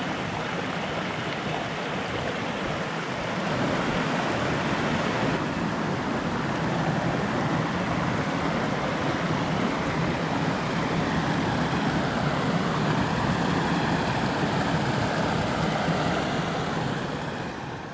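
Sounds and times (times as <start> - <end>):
creek running: 0.0 - 17.9.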